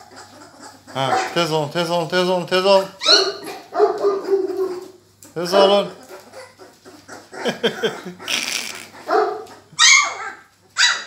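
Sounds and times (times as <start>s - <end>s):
puppies yapping and yelping: 0.0s - 1.7s, 2.7s - 11.0s.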